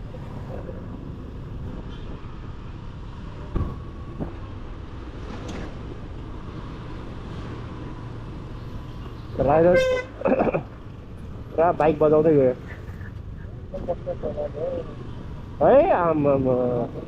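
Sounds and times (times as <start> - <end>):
motorcycle engine and road rumble: 0.0 - 17.0.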